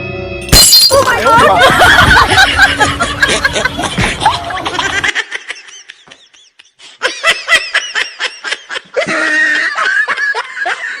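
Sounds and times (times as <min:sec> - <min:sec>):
high-pitched laughter: 0:00.9 - 0:11.0.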